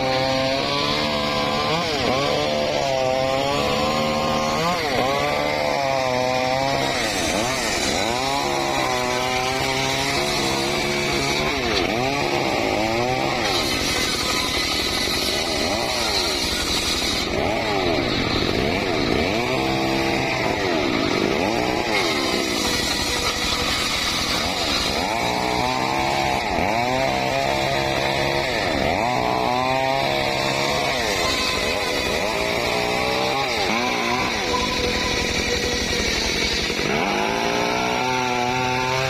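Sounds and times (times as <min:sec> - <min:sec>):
power saw engine running: 0:00.0 - 0:39.0.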